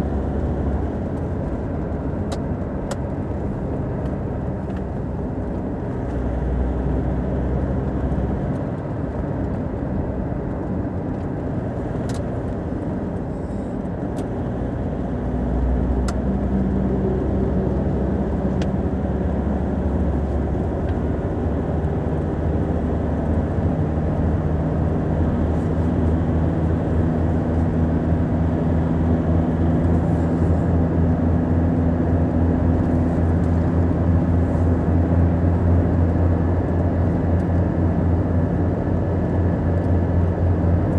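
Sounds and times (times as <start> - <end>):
car engine hum: 0.0 - 40.9
tyre and road noise: 0.0 - 40.9.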